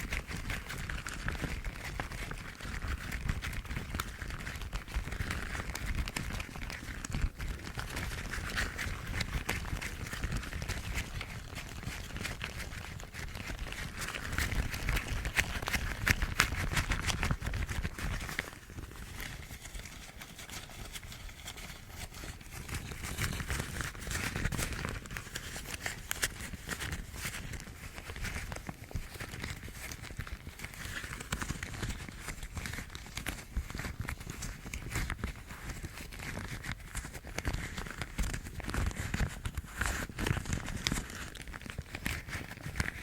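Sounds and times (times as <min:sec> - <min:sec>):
rubber gloves crackling and rustling: 0:00.0 - 0:43.0.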